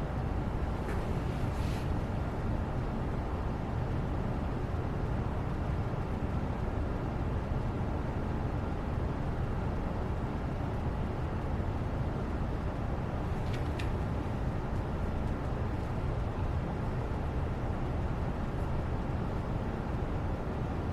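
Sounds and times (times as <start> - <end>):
low rumbling background noise: 0.0 - 20.9.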